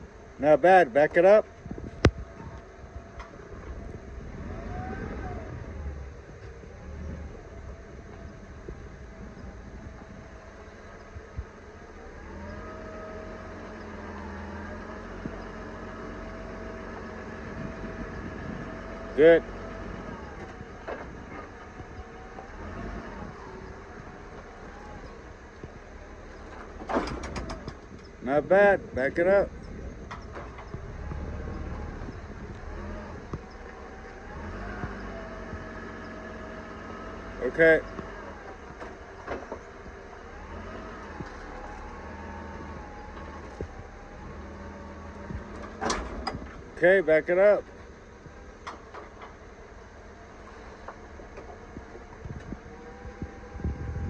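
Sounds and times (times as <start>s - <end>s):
faint drawn-out groaning: 0.0s - 54.0s
vehicle engine running: 0.0s - 54.0s.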